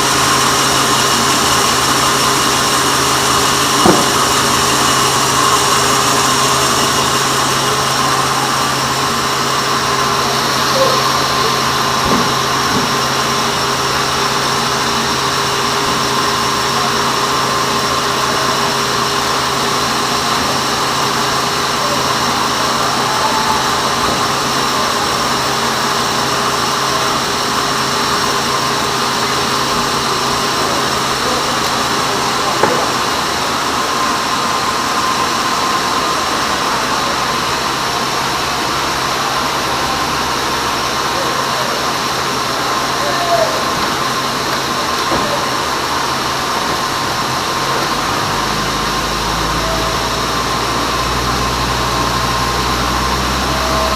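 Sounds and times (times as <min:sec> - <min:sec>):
band saw machine noise: 0:00.0 - 0:53.9.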